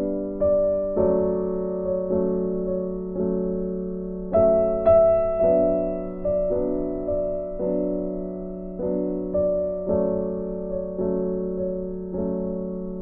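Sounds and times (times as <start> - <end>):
slow melody over held chords: 0.0 - 13.0.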